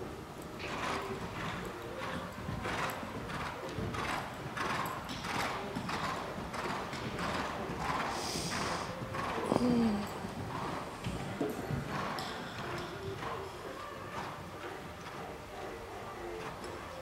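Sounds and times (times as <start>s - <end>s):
horse hooves cantering on sand: 0.1s - 17.0s.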